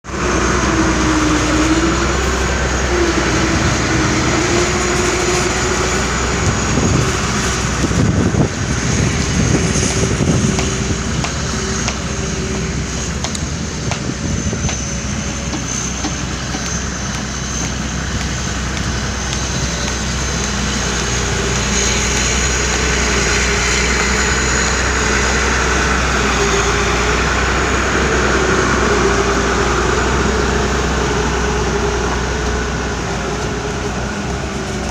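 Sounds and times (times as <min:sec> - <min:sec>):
diesel engine running under load: 0:00.0 - 0:34.9.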